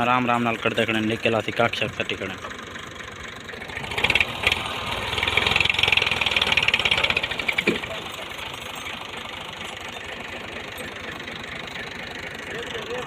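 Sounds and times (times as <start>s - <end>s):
tractor engine straining: 0.0s - 13.0s.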